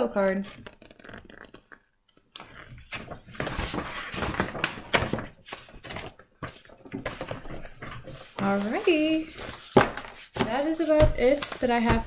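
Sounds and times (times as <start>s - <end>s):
paper poster rustling and crackling: 0.2s - 12.0s.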